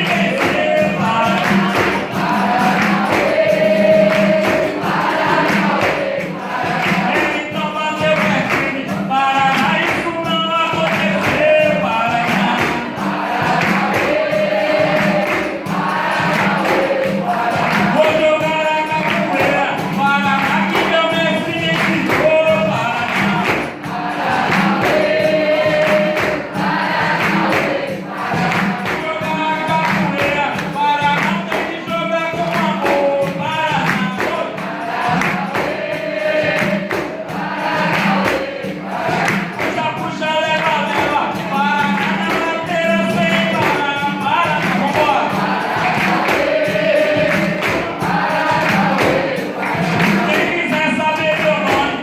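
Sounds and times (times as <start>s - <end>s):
hand percussion steady beat: 0.0s - 52.0s
voices singing together: 0.0s - 52.0s.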